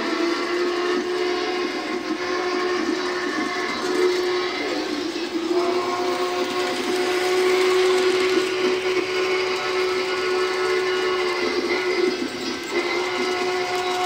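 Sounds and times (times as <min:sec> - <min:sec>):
model locomotive whine: 0:00.0 - 0:14.0
wheels hissing on rail: 0:00.0 - 0:14.0.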